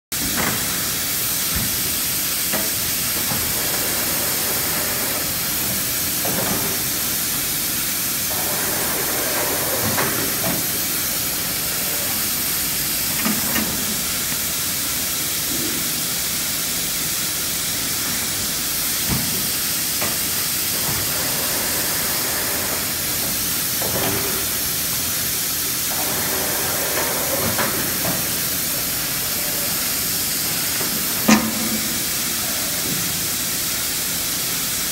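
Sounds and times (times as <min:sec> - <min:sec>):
machine running noise: 0:00.2 - 0:34.9.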